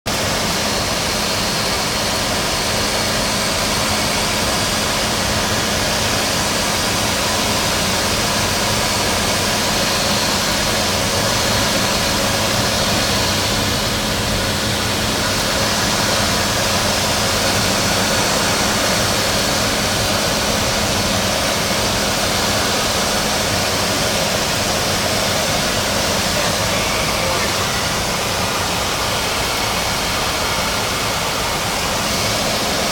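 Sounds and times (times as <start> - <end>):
light aircraft engine droning: 0.1 - 32.9.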